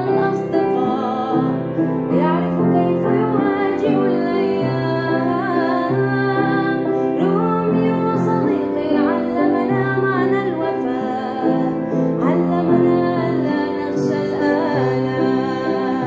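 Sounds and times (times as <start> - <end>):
piano with held bass notes: 0.0 - 16.0
woman singing: 0.0 - 16.0.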